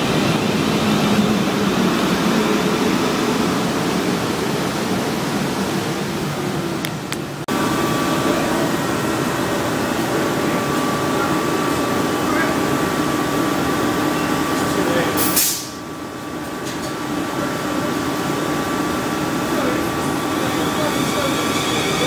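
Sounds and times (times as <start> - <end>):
electric train humming: 0.0 - 22.0
train whine: 0.0 - 22.0.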